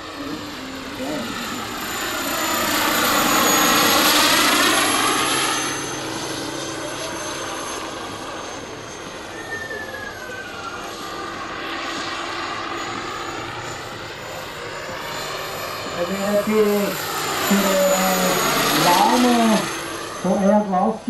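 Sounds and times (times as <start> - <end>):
helicopter rotor noise: 0.0 - 21.0
high turbine whine: 0.0 - 21.0.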